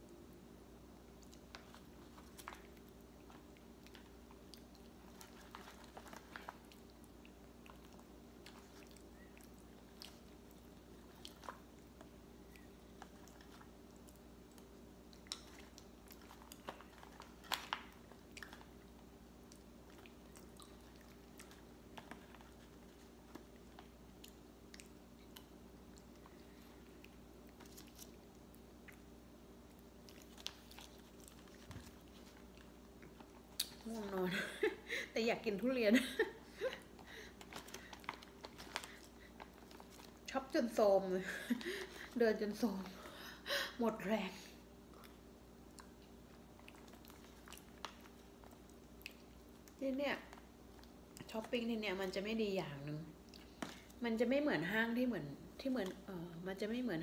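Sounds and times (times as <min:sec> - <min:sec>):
steady low hum: 0:00.0 - 0:57.0
quiet chewing: 0:00.9 - 0:40.6, 0:44.3 - 0:52.2, 0:53.2 - 0:54.0.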